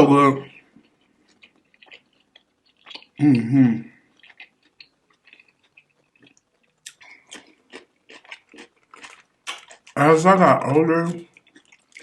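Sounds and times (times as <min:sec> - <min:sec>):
crunchy chewing: 0:00.4 - 0:10.3, 0:11.1 - 0:12.0.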